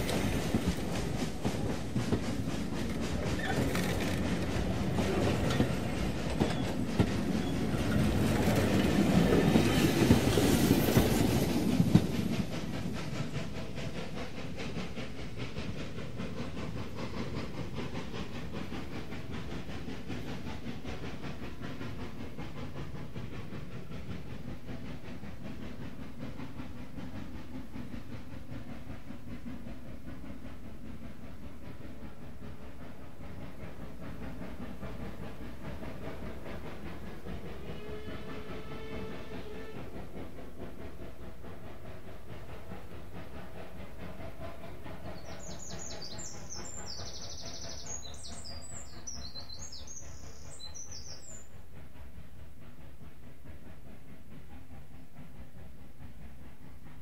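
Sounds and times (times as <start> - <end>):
steam locomotive working: 0.0 - 57.0
train wheels clacking on rail joints: 0.0 - 57.0.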